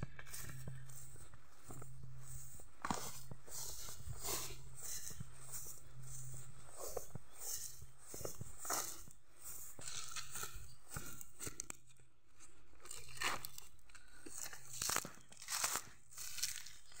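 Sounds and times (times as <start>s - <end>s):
footsteps through grass and dry fronds: 0.0s - 17.0s.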